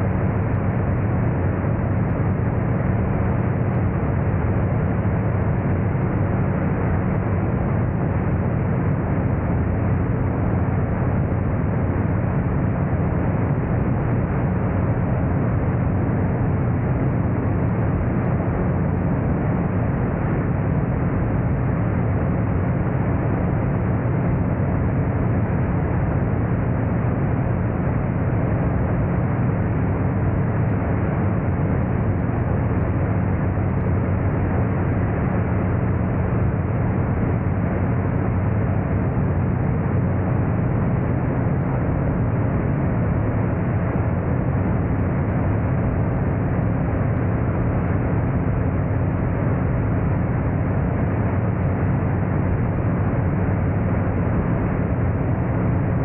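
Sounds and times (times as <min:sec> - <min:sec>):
gyroplane engine and propeller drone: 0:00.0 - 0:56.0.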